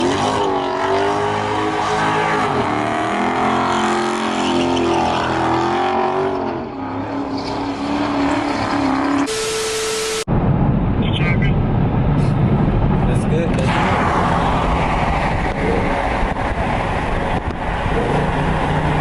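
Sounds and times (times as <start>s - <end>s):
car engines revving: 0.0s - 10.4s, 11.0s - 19.0s.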